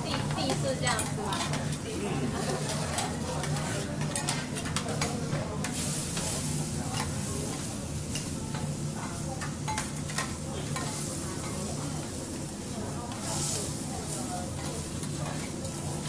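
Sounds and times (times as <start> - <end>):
food sizzling on griddle: 0.0 - 16.0.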